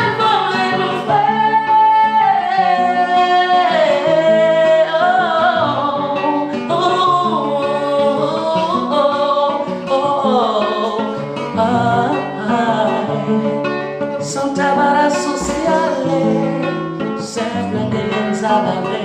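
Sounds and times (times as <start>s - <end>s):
guitar accompaniment: 0.0s - 19.0s.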